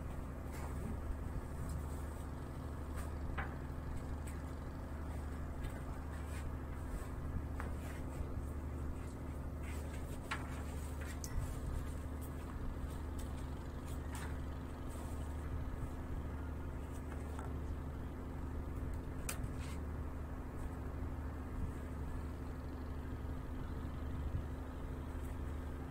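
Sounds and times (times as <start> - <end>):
ship engine drone: 0.0 - 25.9.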